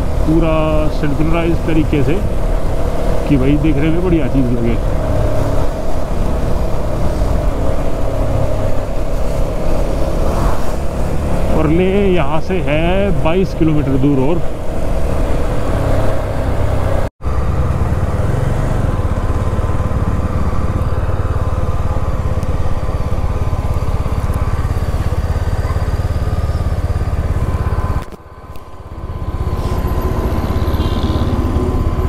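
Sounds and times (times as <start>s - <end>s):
motorcycle engine running: 0.0s - 32.0s
riding noise: 0.0s - 32.0s.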